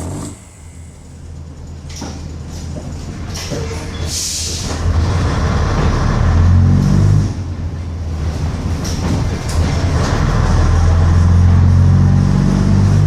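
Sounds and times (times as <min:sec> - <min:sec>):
bus engine accelerating: 0:00.0 - 0:03.4, 0:04.0 - 0:13.0.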